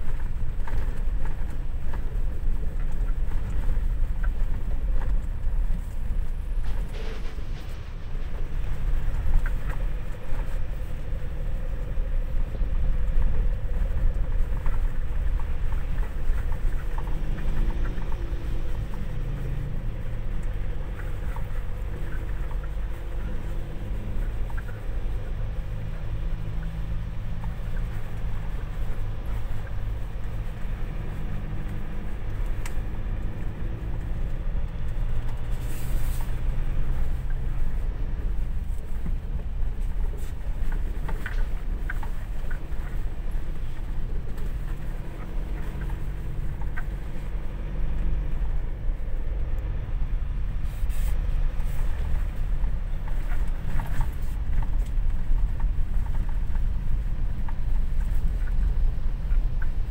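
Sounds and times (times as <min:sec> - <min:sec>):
diesel engine running: 0:00.0 - 0:59.9
tyre and road noise: 0:00.0 - 0:59.9.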